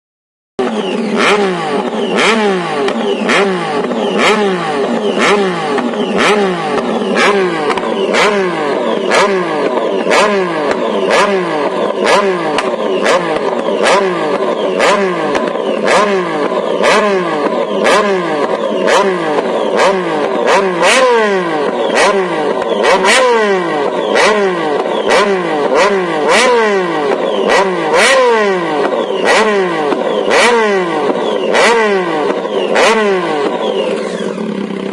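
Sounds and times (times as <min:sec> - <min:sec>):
motorcycle engine revving in blips: 0:00.6 - 0:34.9
sharp exhaust crack: 0:00.6 - 0:34.9.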